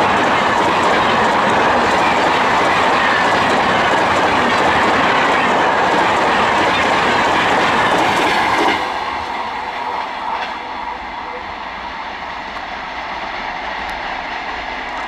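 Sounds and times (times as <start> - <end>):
train rushing past: 0.0 - 15.0.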